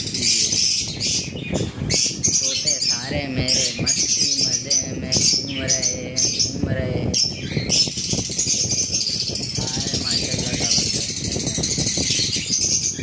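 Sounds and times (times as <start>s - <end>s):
birds chattering and screeching: 0.0s - 13.0s.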